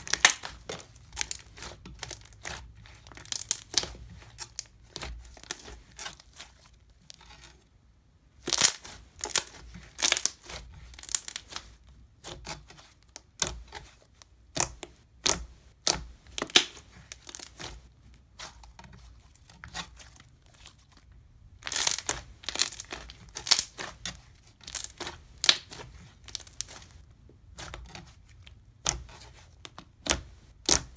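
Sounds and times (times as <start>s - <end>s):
slime being squished by hand: 0.0s - 6.7s, 8.4s - 30.9s.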